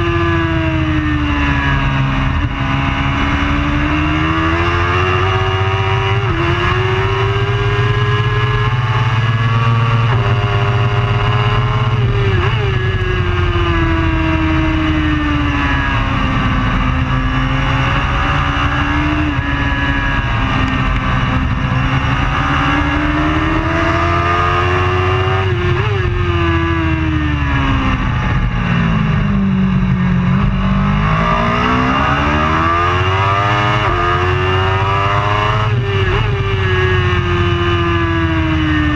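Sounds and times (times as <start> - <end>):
racing motorcycle engine: 0.0 - 38.9.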